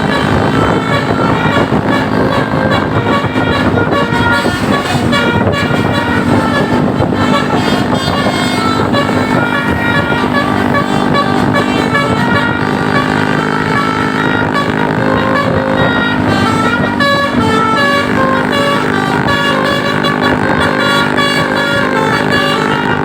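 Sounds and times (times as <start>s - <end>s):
musical air horn melody: 0.0s - 23.0s
steady low drone: 0.0s - 23.0s.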